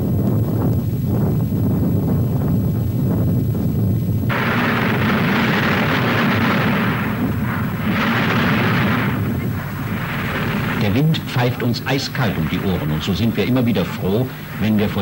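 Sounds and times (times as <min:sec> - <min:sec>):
low rumble: 0:00.0 - 0:15.0
volcanic crater hissing: 0:00.0 - 0:15.0.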